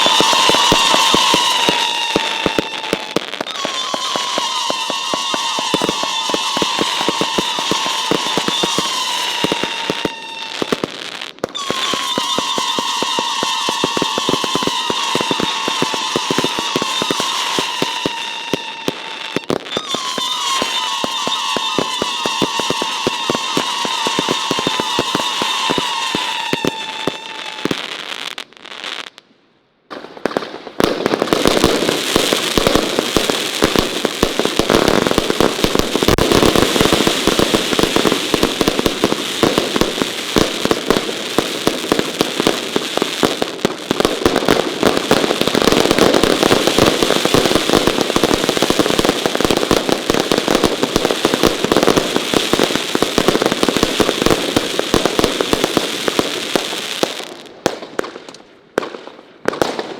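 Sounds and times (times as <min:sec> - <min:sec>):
firework barrage bangs and crackling: 0:00.0 - 0:29.2, 0:29.9 - 0:59.9.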